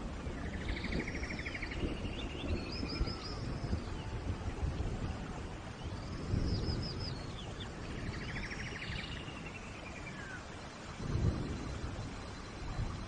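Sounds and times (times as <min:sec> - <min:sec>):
rain hissing: 0:00.0 - 0:13.0
songbirds calling: 0:00.0 - 0:13.0.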